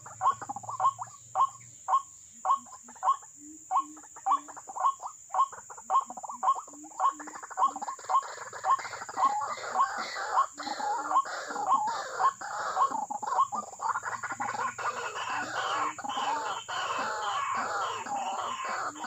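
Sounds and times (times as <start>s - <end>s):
waterhens harsh croaking: 0.0s - 19.0s.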